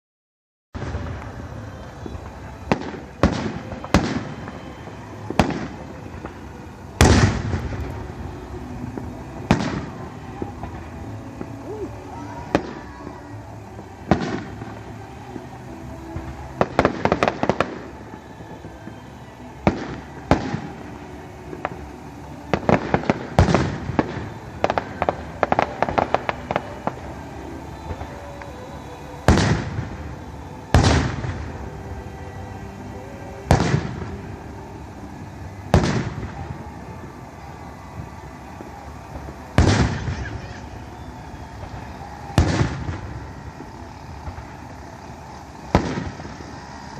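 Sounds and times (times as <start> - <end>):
fireworks crackling: 0.8 - 46.9
firework shells bursting: 0.9 - 46.9.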